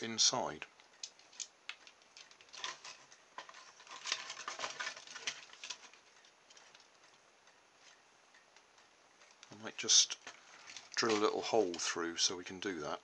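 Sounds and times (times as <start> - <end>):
light plastic clicks and rustles: 0.7 - 12.7.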